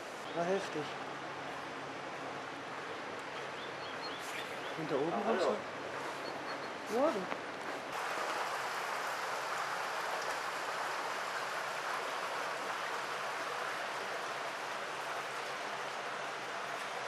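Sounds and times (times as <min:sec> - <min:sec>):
brook water rushing: 0:00.0 - 0:06.2, 0:06.8 - 0:17.0.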